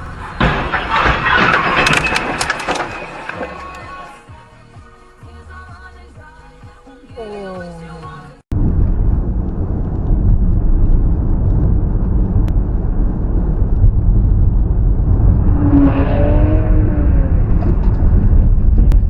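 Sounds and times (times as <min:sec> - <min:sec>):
vehicle rumbling on road: 0:00.0 - 0:04.3, 0:07.4 - 0:19.0.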